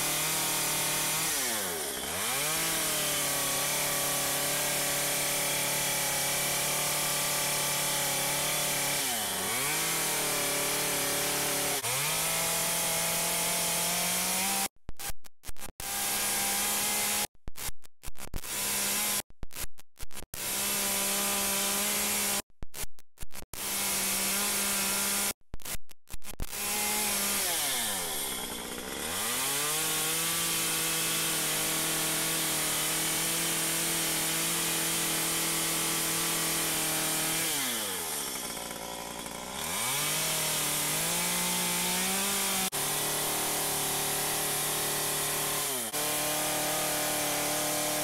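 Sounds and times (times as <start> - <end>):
chainsaw running at high revs: 0.0 - 14.7, 15.8 - 17.3, 18.4 - 19.2, 20.4 - 22.4, 23.6 - 25.4, 26.5 - 48.0.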